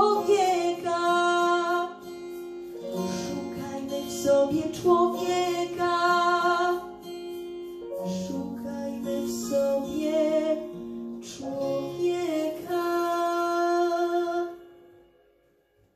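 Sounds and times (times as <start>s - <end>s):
acoustic guitar: 0.0s - 15.9s.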